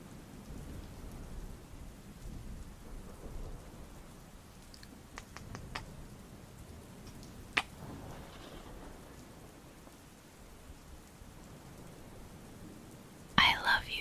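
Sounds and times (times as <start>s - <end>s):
rain: 0.0s - 14.0s
distant thunder rumble: 0.5s - 14.0s.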